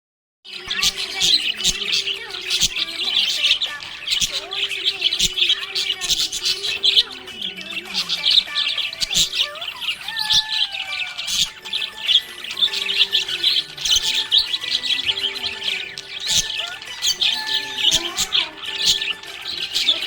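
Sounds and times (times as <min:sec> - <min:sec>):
budgerigar chirping: 0:00.5 - 0:20.0.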